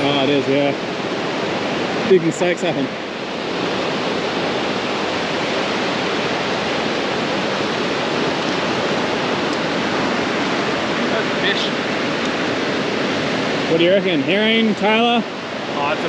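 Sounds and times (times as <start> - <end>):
surf breaking on a beach: 0.0 - 16.0.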